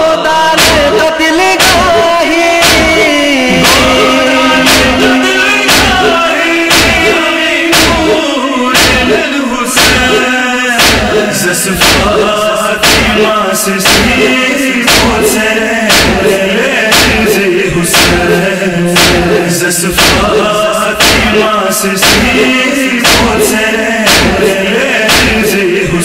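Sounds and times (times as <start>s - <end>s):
men chanting: 0.0s - 26.0s
heavy beat: 0.6s - 26.0s.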